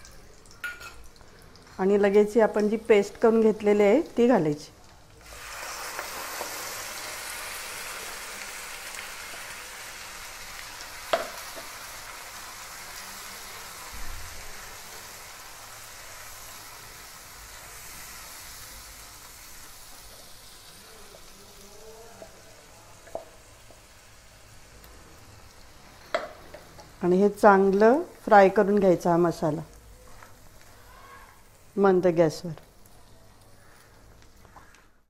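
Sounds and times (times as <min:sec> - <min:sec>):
paste sizzling in hot oil: 0:00.0 - 0:34.6.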